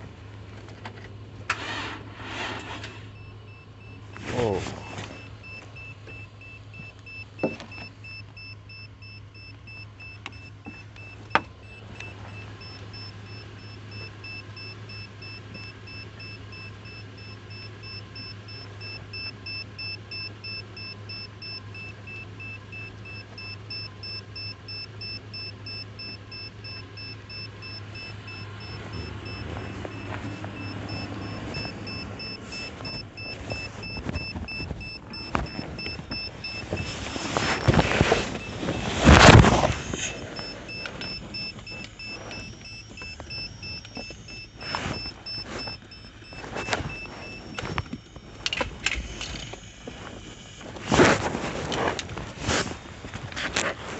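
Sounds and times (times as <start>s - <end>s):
vehicle engine idling: 0.0s - 53.9s
electronic warning chime beeping: 3.1s - 47.9s.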